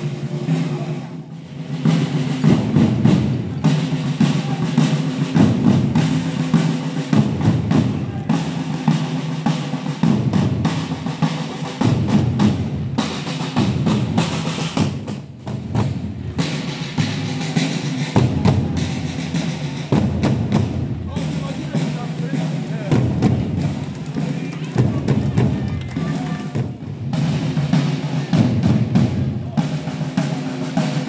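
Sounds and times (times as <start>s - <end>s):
marching drums: 0.0s - 31.0s.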